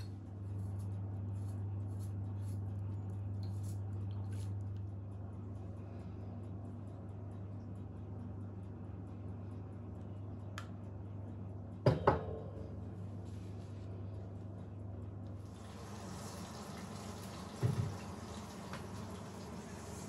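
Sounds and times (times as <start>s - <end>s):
low hum: 0.0s - 16.1s.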